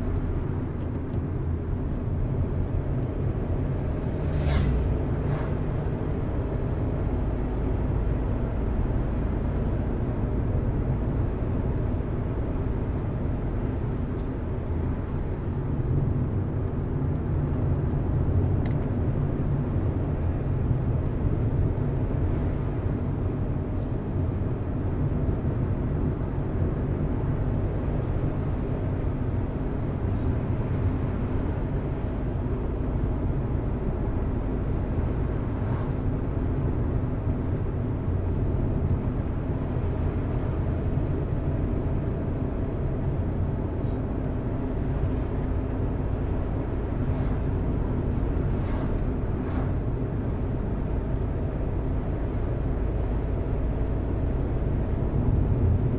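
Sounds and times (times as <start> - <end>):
car engine and tyre rumble: 0.0 - 55.9.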